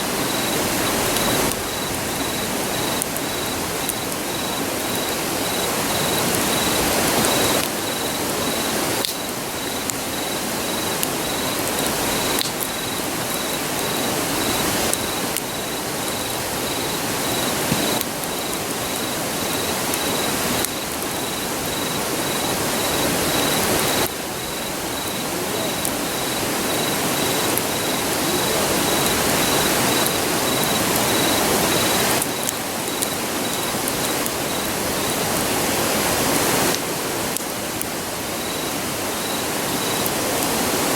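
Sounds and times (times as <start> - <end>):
cricket chirping: 0.0 - 40.9
faint campfire crackles: 0.0 - 40.9
river rushing: 0.0 - 40.9.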